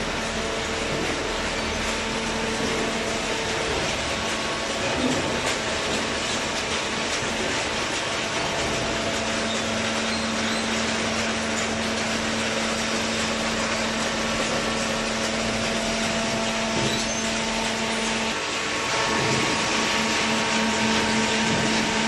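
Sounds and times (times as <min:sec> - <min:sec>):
hydraulic baling press running: 0:00.0 - 0:22.0
steady mechanical hum: 0:00.0 - 0:22.0.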